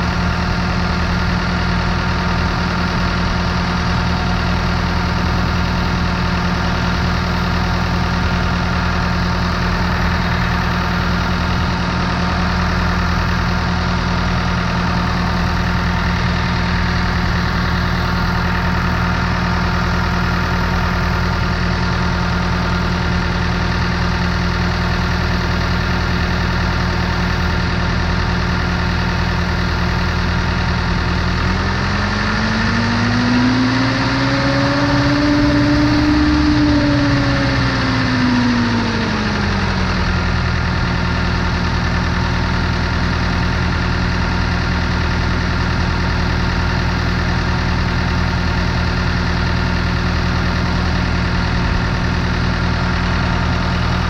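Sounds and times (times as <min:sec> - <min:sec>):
pump engine idling and revving: 0:00.0 - 0:54.0.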